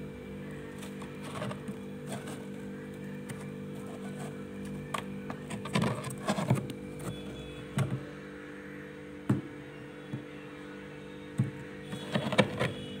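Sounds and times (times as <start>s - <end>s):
freezer humming: 0.0s - 13.0s.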